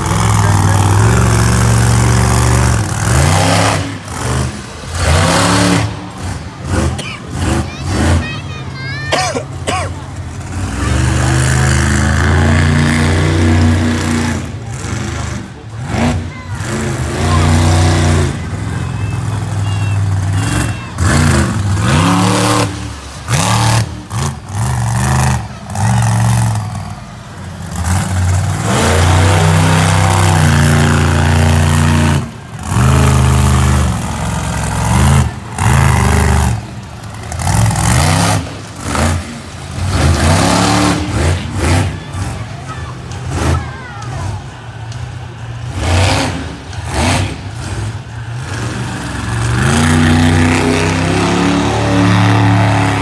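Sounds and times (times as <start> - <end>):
monster truck engine revving: 0.0 - 53.0.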